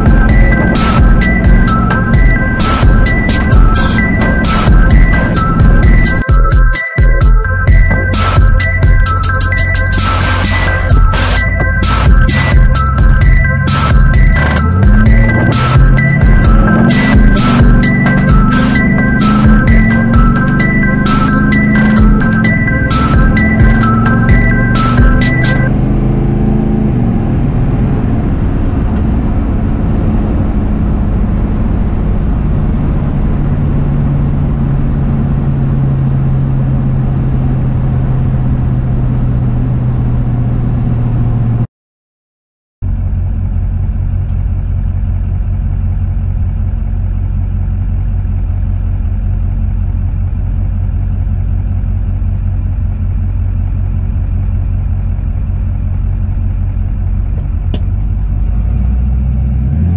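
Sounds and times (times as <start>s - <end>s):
diesel truck engine: 0.0s - 41.7s, 42.8s - 59.9s.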